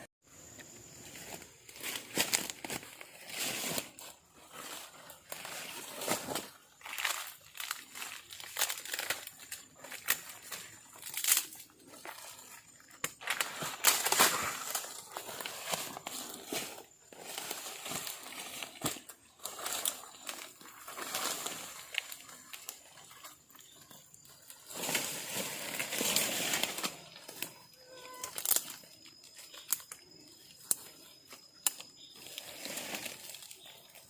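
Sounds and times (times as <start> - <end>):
rustling and crinkling handling: 1.2 - 30.0.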